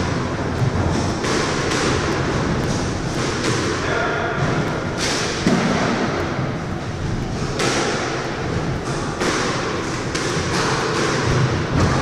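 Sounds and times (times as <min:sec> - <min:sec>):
squash ball hits echoing: 0:00.0 - 0:12.0.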